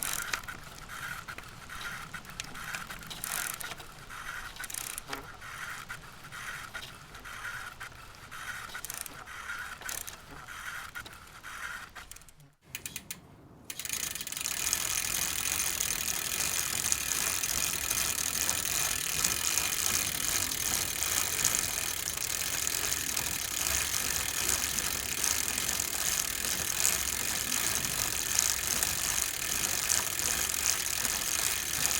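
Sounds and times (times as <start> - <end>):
bicycle freewheel ticking: 0.0 - 31.9.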